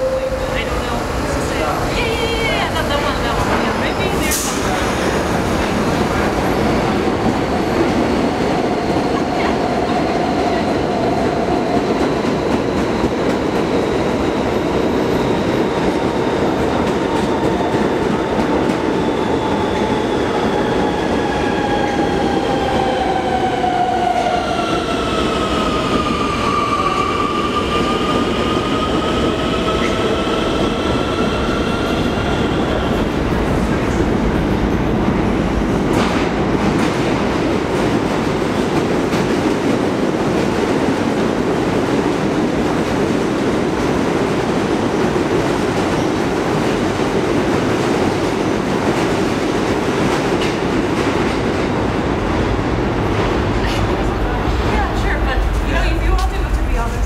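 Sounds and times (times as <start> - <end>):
subway train wheels rumbling: 0.0 - 57.0.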